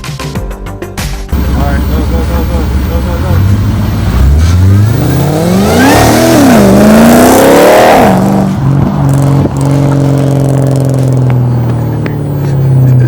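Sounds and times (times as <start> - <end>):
car engine revving: 1.3 - 13.0.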